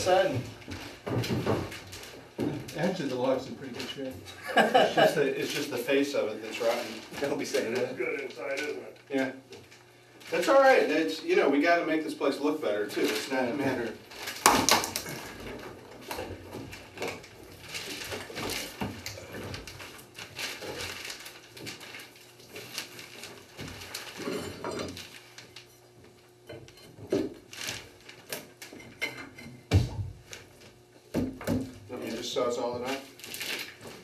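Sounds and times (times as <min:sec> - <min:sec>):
wood pieces falling on plastic sheeting: 0:00.0 - 0:11.4, 0:12.3 - 0:34.0.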